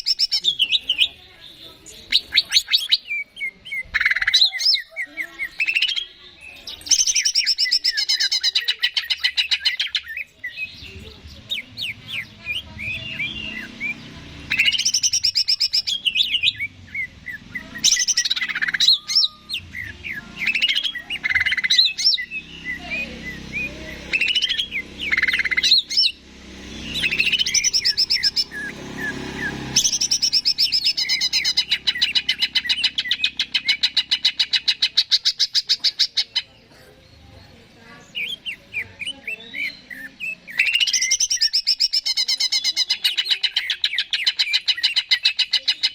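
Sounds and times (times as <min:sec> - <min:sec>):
bird singing varied song: 0:00.0 - 0:45.9.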